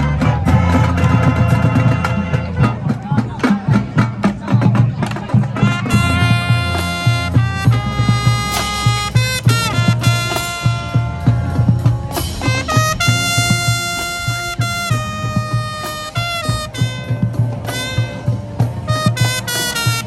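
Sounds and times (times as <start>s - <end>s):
brass chords: 0.0s - 3.2s, 5.5s - 20.0s
low drum beat: 0.0s - 20.0s.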